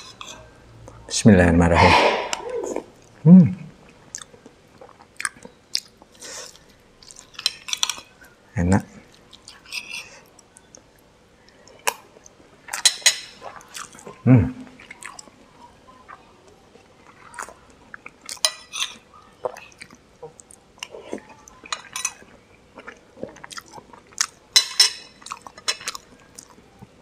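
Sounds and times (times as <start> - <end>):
man chewing food: 3.8 - 8.3, 9.0 - 18.4, 19.0 - 27.0.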